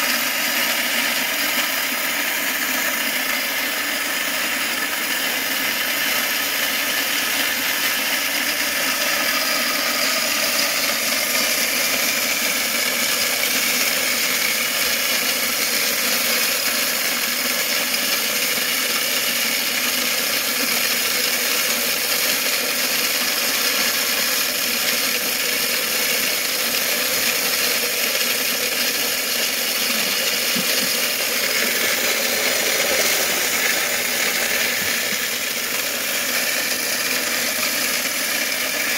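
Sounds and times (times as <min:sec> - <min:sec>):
electric grinder grinding corn: 0:00.0 - 0:38.9.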